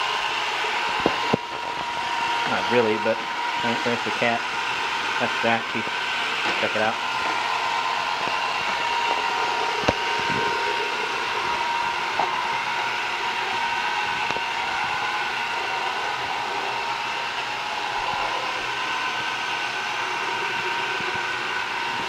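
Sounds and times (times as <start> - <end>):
robot vacuum whirring: 0.0 - 22.0.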